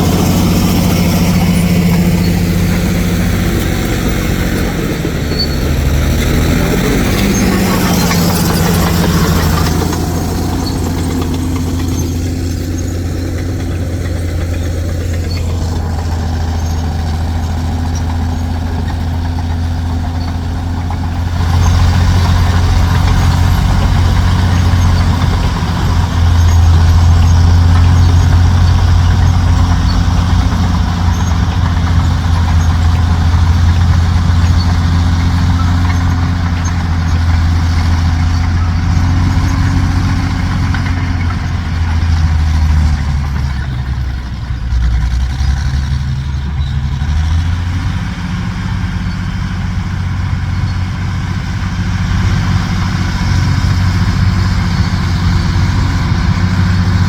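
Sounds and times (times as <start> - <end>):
heavy truck engine running: 0.0 - 57.0.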